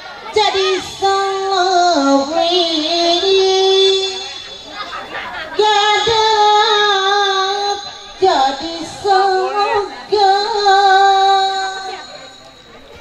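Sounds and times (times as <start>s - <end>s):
person singing a chant: 0.2s - 13.0s.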